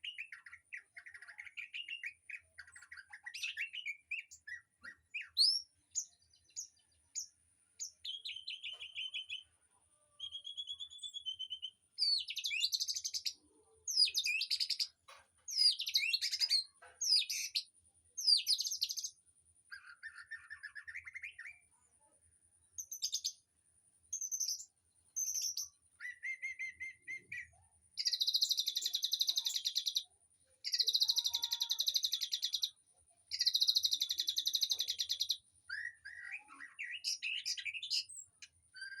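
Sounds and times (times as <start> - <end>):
songbirds chirping and singing: 0.0 - 22.1, 22.7 - 23.5, 24.1 - 39.0.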